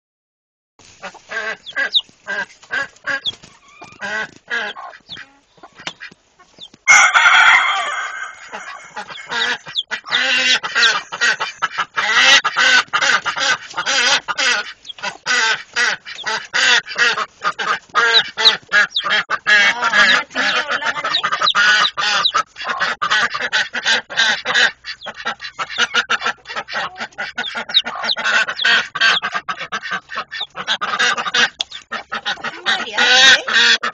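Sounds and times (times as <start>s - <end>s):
hen and chick calling: 0.8s - 33.9s.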